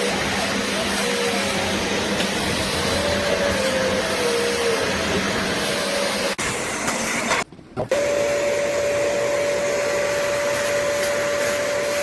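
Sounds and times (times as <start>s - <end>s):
upholstery cleaner suction motor: 0.0s - 12.0s.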